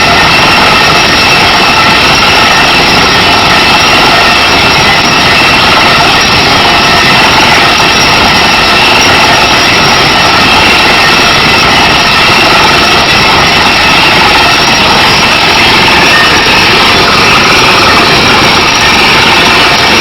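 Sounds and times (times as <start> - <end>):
drilling rig machinery running: 0.0 - 20.0.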